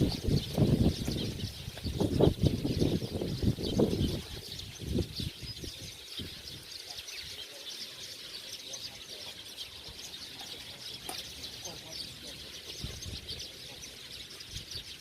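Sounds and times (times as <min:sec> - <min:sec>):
chorus of small birds chirping: 0:00.0 - 0:15.0.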